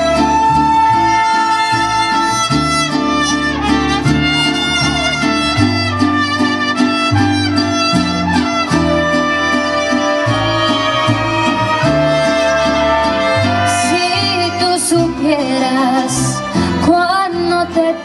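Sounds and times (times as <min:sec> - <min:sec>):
mariachi band playing: 0:00.0 - 0:18.0.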